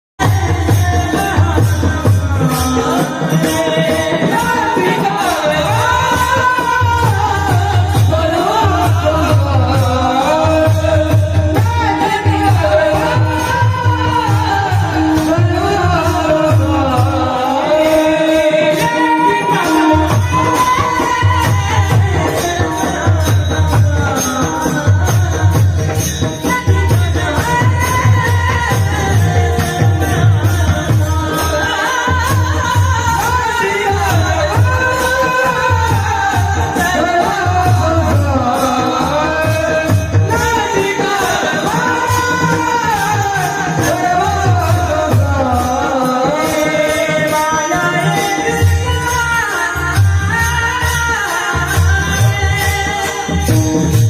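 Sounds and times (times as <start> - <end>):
light jingling percussion: 0.2 - 54.0
steady drum beat: 0.2 - 54.0.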